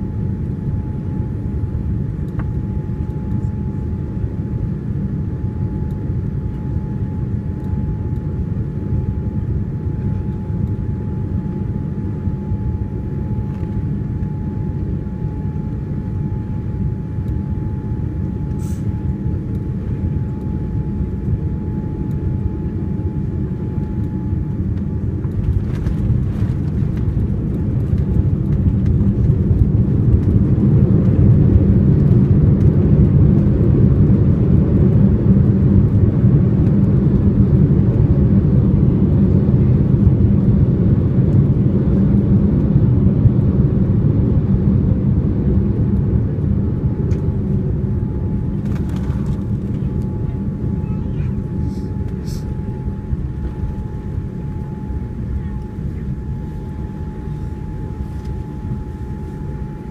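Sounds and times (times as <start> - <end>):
low cabin rumble: 0.0 - 59.9.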